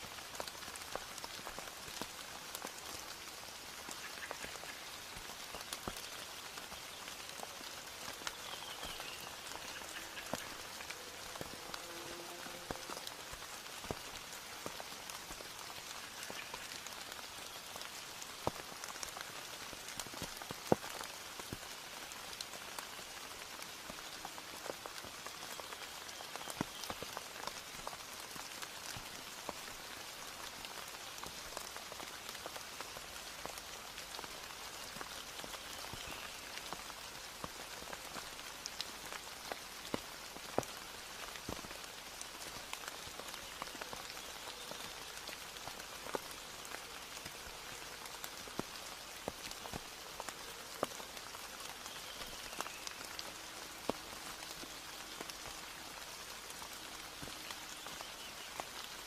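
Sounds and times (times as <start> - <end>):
rain hissing: 0.0 - 59.0
raindrops tapping: 0.2 - 59.0.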